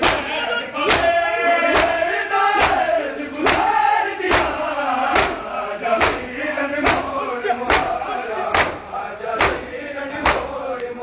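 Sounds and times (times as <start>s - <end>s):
hands slapping chests in unison: 0.0s - 0.3s, 0.9s - 11.0s
men chanting together: 0.0s - 11.0s.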